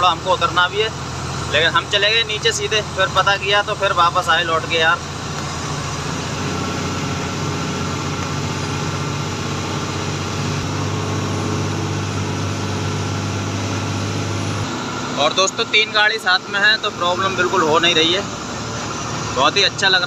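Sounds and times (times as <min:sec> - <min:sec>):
road noise: 0:00.0 - 0:20.0
truck diesel engine droning: 0:00.0 - 0:20.0.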